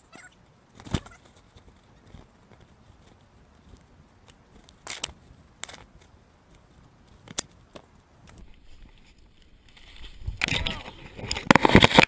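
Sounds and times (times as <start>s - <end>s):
faint crackling: 0.0s - 12.0s.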